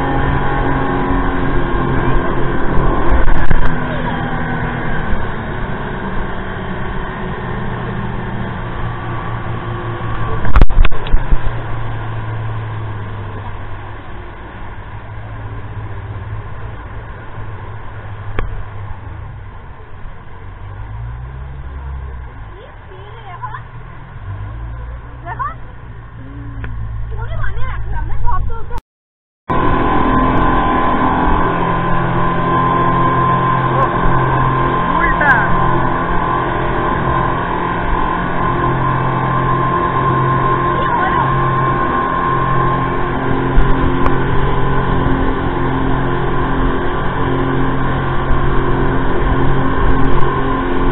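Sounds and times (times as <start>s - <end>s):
speedboat engines running: 0.0s - 28.8s, 29.5s - 50.9s
wake water rushing: 0.0s - 28.8s, 29.5s - 50.9s.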